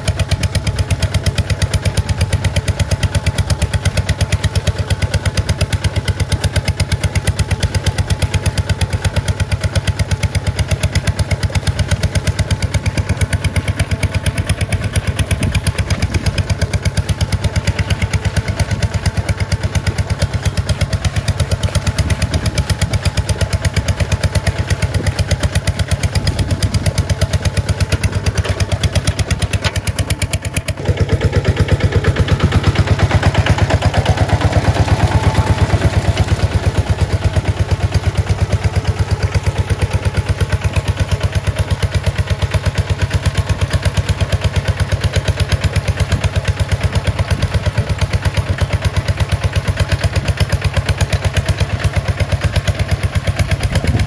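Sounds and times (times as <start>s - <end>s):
diesel engine thumping: 7.4s - 54.0s.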